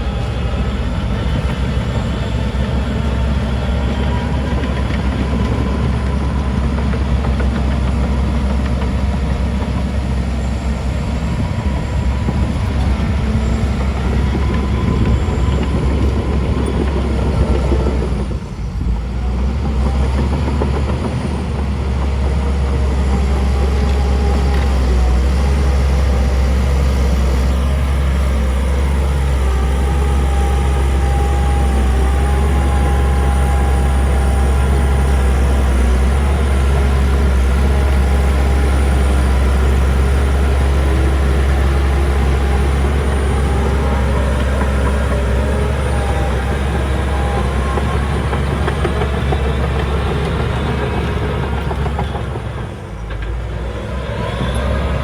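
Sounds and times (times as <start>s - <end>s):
diesel machinery engine rumble: 0.0s - 55.0s.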